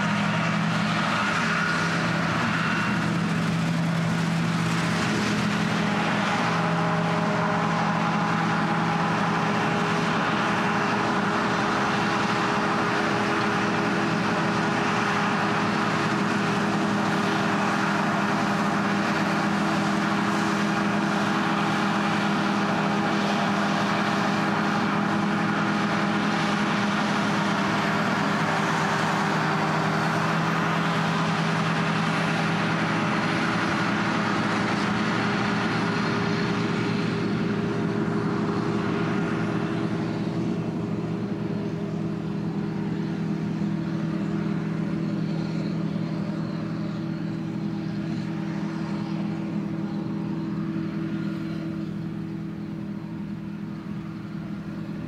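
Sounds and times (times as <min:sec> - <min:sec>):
combine harvester working: 0:00.0 - 0:55.0.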